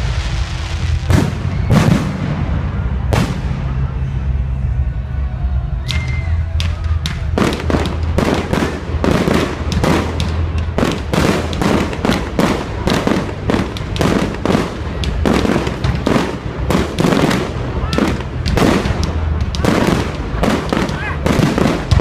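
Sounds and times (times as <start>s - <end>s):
fireworks bangs: 0.0s - 4.2s, 5.9s - 22.0s.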